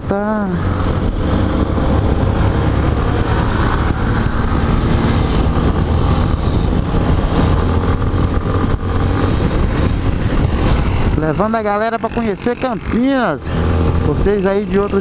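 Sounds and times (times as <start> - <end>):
motorcycle engine running: 0.4 - 14.4.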